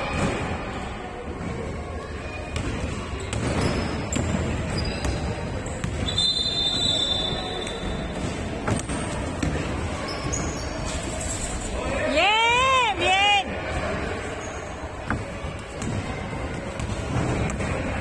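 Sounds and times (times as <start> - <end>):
noisy background: 0.0 - 18.0.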